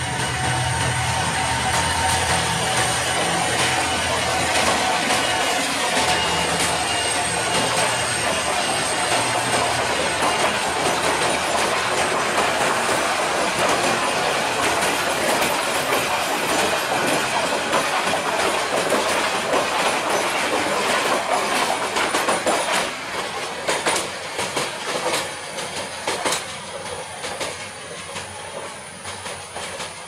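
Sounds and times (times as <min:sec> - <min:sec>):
train coaches rattling past: 0:00.0 - 0:30.0.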